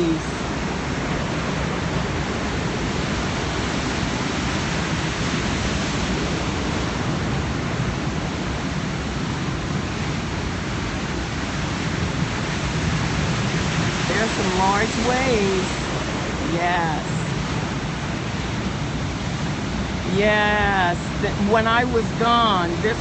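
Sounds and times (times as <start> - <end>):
ocean waves breaking: 0.0 - 23.0.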